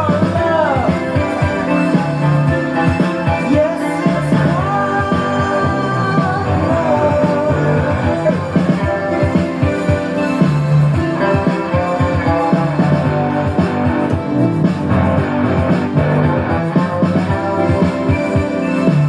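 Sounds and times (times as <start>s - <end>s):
rock song with vocals: 0.0s - 19.0s.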